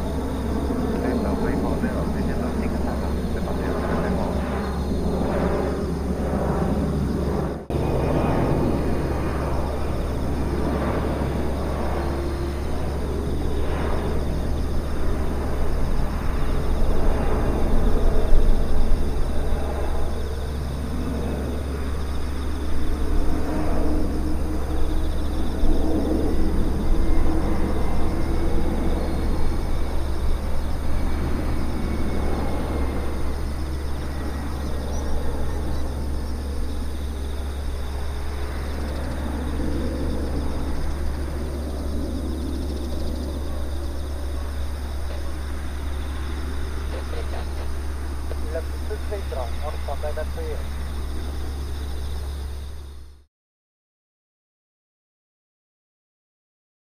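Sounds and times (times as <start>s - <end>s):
jet engines rumbling overhead: 0.0s - 53.3s.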